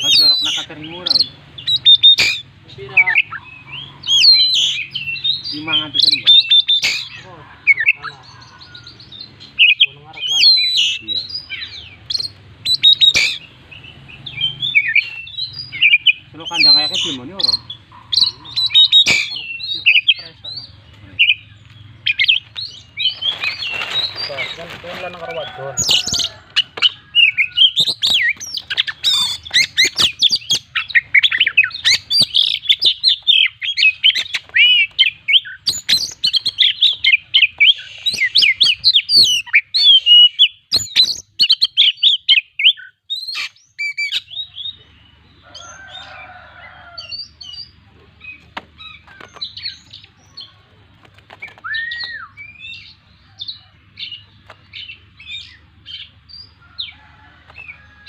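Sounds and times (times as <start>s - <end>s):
magpie-robin singing: 0.0s - 58.0s.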